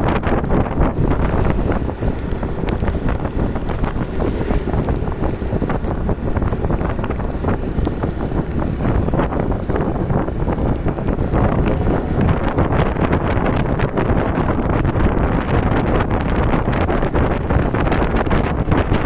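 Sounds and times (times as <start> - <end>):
wind buffeting microphone: 0.0 - 19.0
light rain drops ticking: 0.2 - 19.0.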